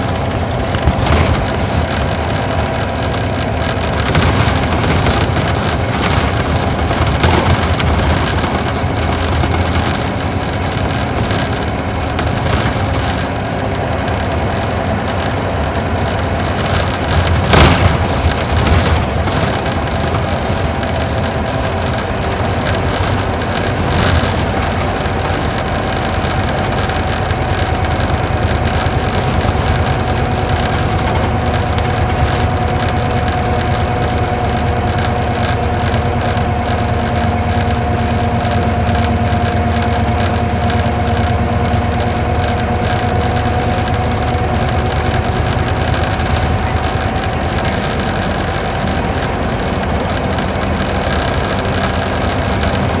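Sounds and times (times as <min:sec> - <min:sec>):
coach engine running: 0:00.0 - 0:53.0
road noise: 0:00.0 - 0:53.0
steady whine: 0:00.0 - 0:53.0.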